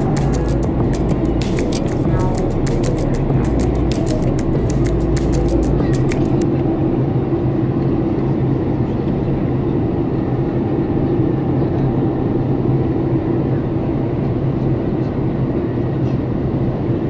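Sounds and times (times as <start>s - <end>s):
steady low hum: 0.0s - 14.3s
airplane cabin engine rush: 0.0s - 17.0s.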